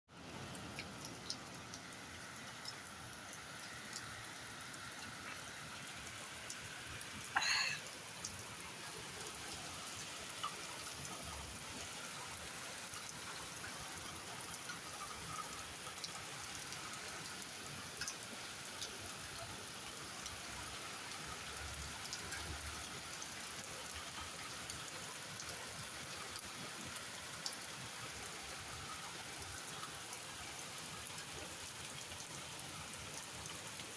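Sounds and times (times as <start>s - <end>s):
raindrops ticking: 0.2s - 27.6s.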